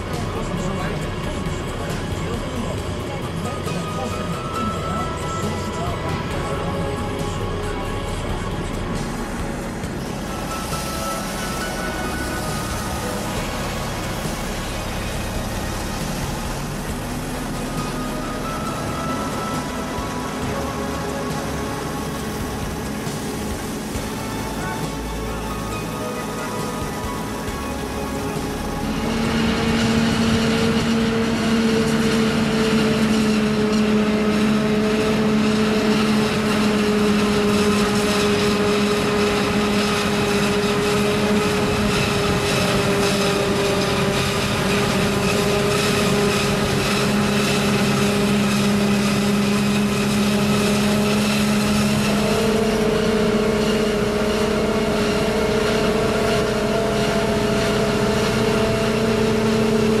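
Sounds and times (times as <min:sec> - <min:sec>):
harvester machine drone: 0:00.0 - 1:00.0.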